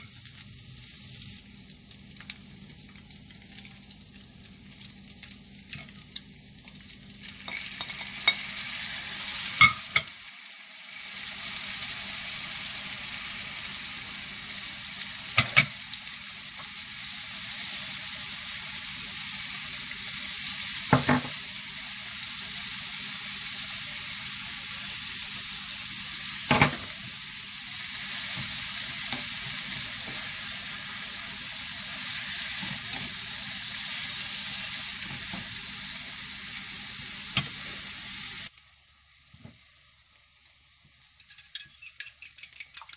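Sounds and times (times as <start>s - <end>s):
fried rice sizzling in a pan: 0.0s - 42.9s.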